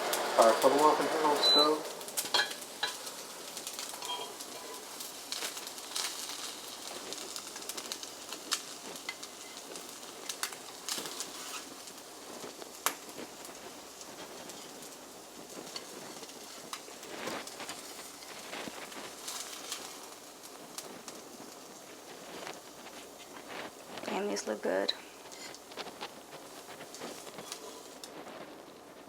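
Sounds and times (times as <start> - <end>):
hot oil sizzling in a frying pan: 0.0 - 29.0.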